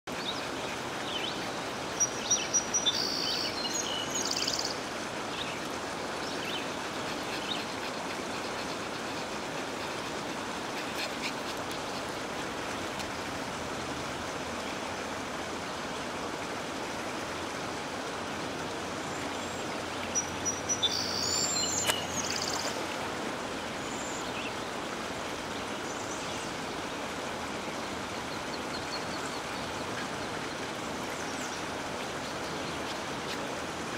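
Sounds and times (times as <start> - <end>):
flowing river: 0.0 - 33.9.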